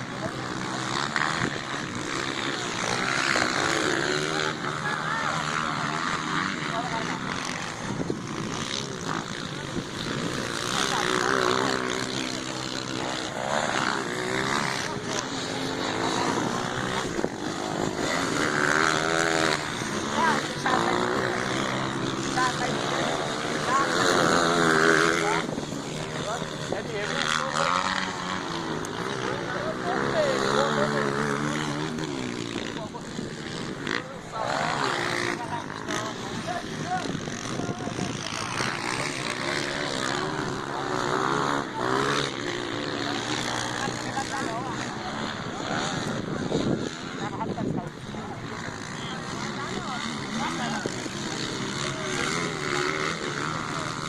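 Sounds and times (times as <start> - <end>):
dirt bike engines revving: 0.0 - 54.0
noisy background: 0.0 - 54.0
voices: 0.0 - 54.0.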